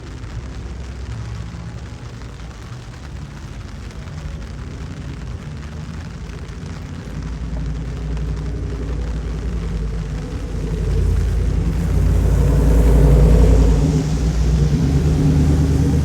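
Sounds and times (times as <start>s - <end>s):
car engine and exhaust rumbling: 0.0s - 16.0s.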